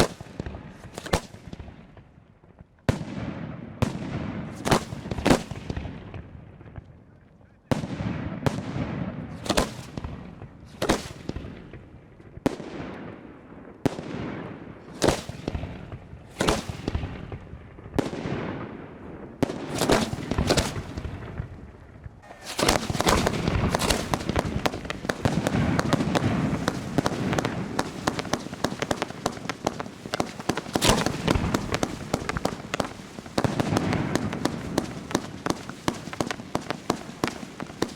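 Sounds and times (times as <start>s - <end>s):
fireworks bursting: 0.0s - 6.9s, 7.7s - 13.1s, 13.8s - 37.9s
crackle of fireworks: 0.0s - 37.9s.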